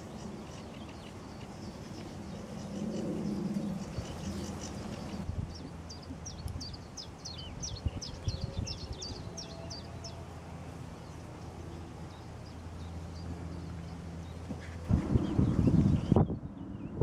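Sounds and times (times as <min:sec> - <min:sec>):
small songbird singing: 0:00.0 - 0:17.0.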